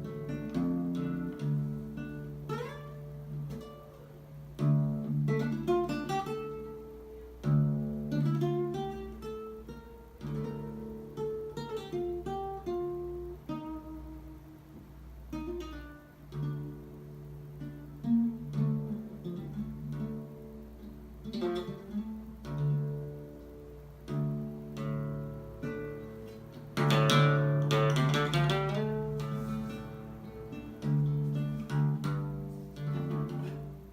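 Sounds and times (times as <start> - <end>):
solo acoustic guitar: 0.0 - 33.9.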